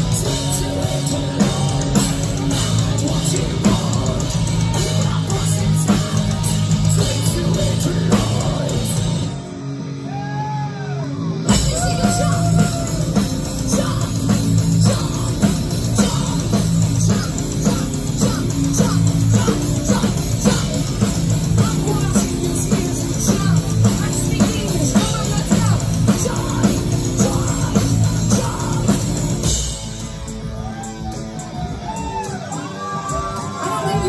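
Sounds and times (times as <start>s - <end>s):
metal band playing live: 0.0s - 34.0s.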